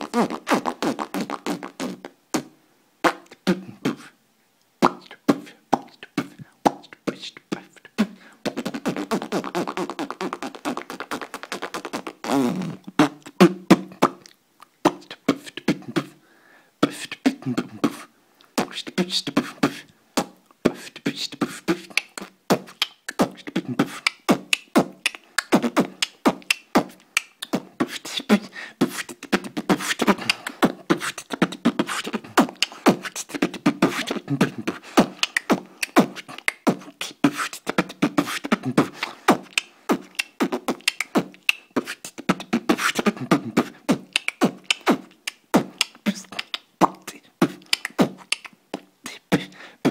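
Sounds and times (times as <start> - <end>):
person beatboxing: 0.0 - 4.2, 4.8 - 16.2, 16.8 - 49.9.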